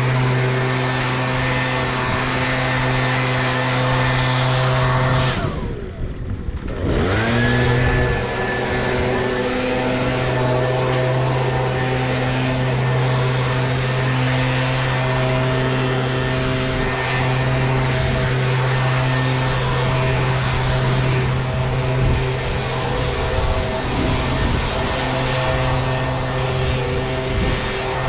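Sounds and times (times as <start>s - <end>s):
leaf blower running: 0.0s - 28.0s.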